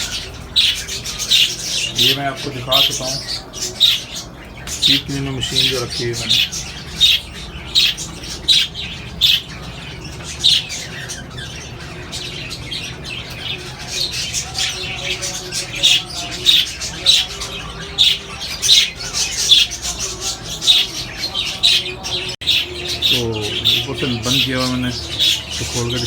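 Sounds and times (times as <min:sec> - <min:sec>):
parrots squawking: 0:00.0 - 0:26.0.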